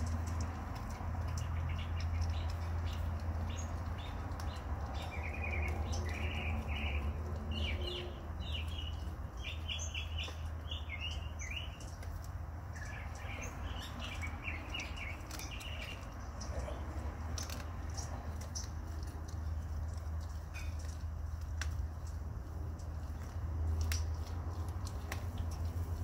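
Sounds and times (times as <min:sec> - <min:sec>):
dog crunching on bone: 0:00.0 - 0:26.0
small birds chirping: 0:00.0 - 0:26.0.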